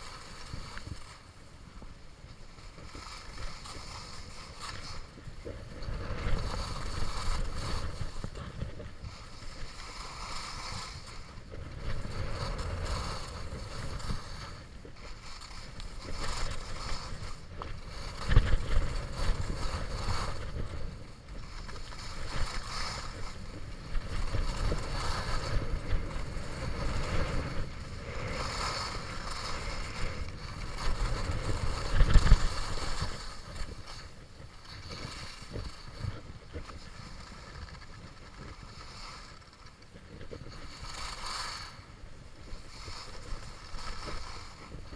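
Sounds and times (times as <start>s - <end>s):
skis scraping over snow: 0.0s - 44.9s
wind rumble on microphone: 0.0s - 44.9s.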